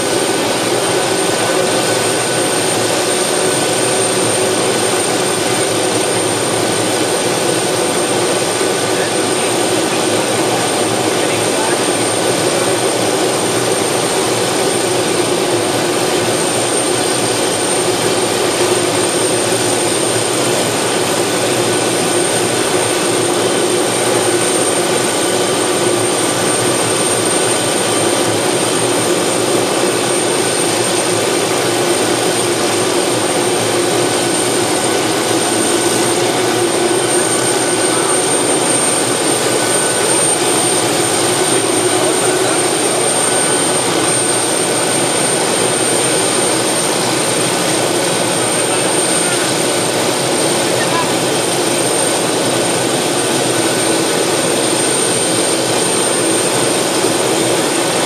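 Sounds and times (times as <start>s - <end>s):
helicopter turbine idling: 0.0s - 58.0s.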